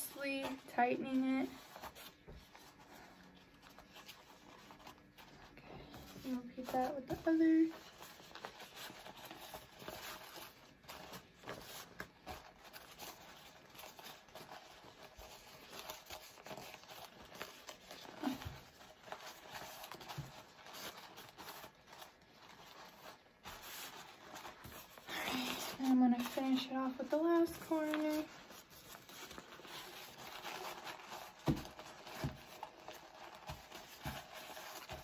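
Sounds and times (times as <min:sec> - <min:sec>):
wrap rustling and crinkling: 0:00.0 - 0:35.0.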